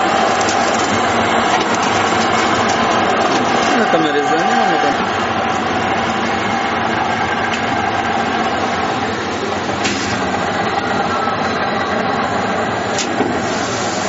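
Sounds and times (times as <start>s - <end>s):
glass-working machine hum: 0.0s - 14.0s.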